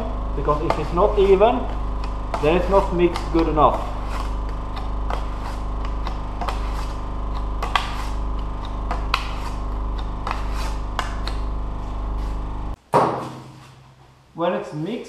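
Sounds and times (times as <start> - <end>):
low machine hum: 0.0 - 12.8.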